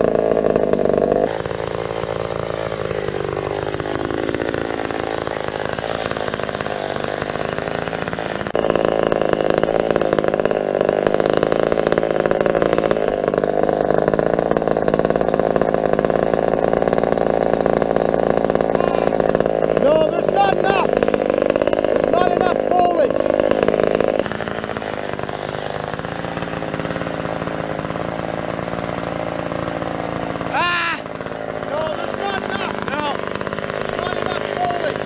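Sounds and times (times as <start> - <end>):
chainsaw running: 0.0 - 35.0.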